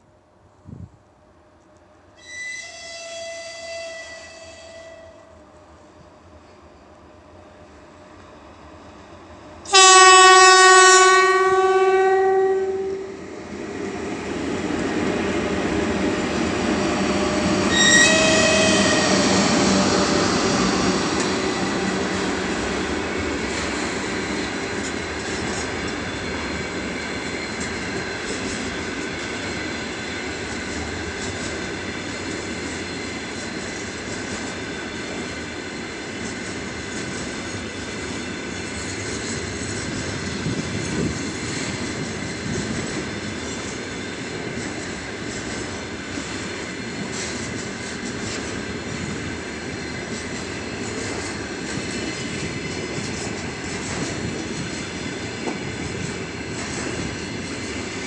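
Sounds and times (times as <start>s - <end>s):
steel train wheels rolling on rails: 3.1s - 58.0s.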